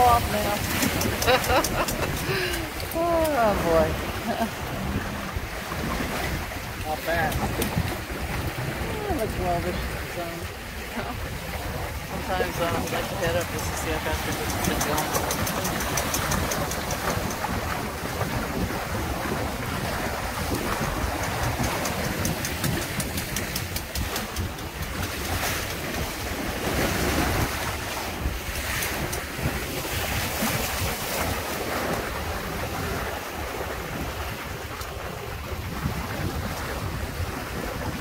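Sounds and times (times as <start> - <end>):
water rushing along hull: 0.0 - 38.0
wind buffeting microphone: 0.0 - 38.0.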